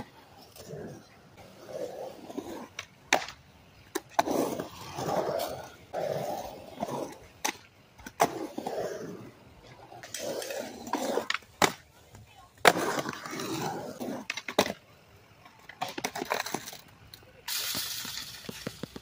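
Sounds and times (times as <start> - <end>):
skateboard clacking on ground: 0.0 - 19.0
skateboard wheels rolling on concrete: 0.0 - 19.0.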